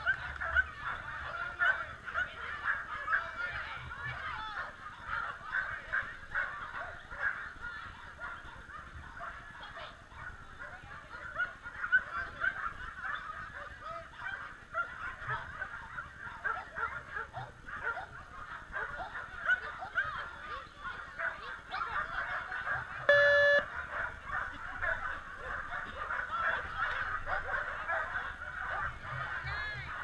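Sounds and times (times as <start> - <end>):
many dogs barking: 0.0 - 30.0.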